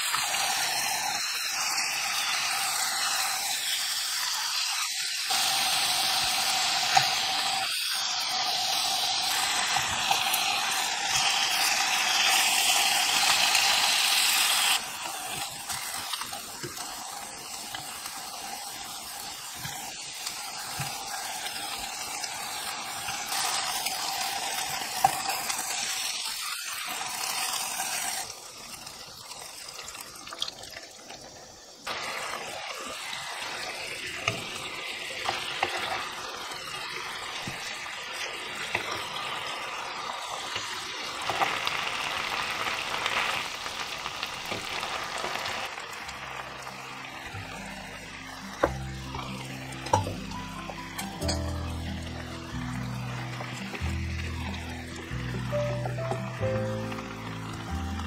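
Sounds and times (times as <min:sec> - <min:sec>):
spatula turning food: 0:00.0 - 0:29.4, 0:31.9 - 0:43.4, 0:44.2 - 0:58.0
chicken sizzling in a frying pan: 0:00.0 - 0:58.0
sauce bubbling: 0:00.0 - 0:58.0.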